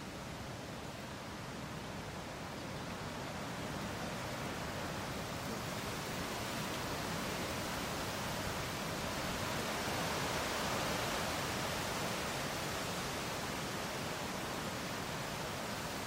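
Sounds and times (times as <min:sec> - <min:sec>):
strong wind rustling leaves: 0:00.0 - 0:16.0.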